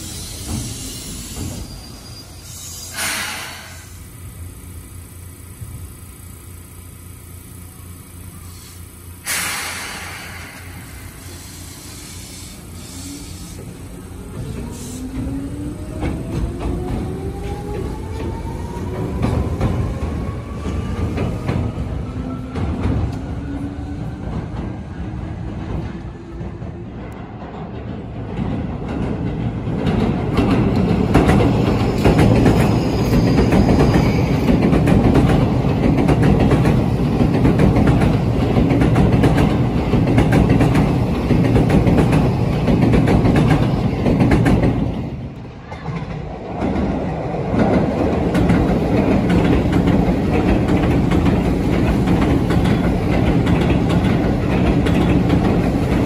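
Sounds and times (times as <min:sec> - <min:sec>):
train wheels rumbling and clattering: 0:00.0 - 0:56.0.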